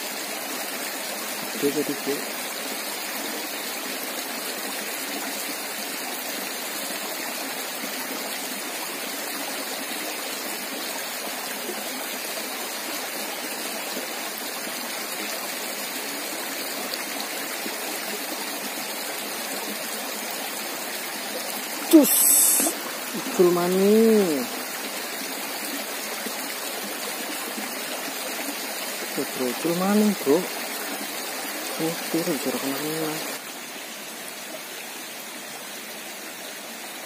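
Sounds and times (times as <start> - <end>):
water flowing over stones: 0.0 - 37.0.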